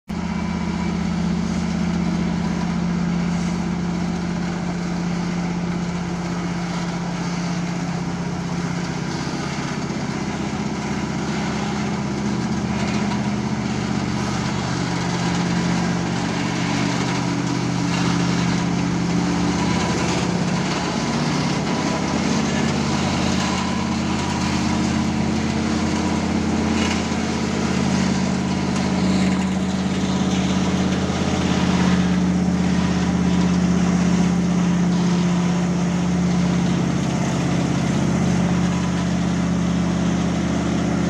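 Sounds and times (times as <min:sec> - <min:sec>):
machine engine humming: 0:00.1 - 0:41.0.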